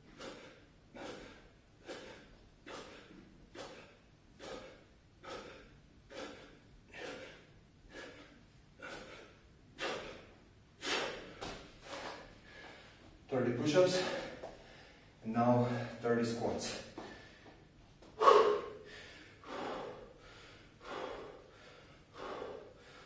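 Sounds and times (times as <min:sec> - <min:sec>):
man breathing heavily: 0:00.0 - 0:23.0.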